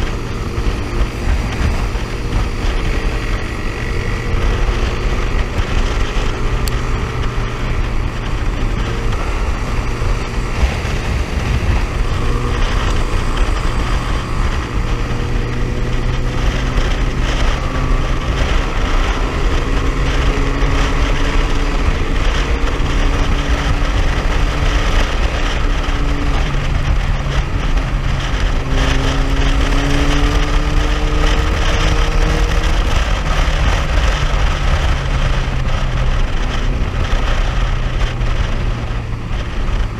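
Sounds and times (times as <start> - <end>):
motorcycle engine droning: 0.0 - 39.9
wind noise on microphone: 0.0 - 39.9.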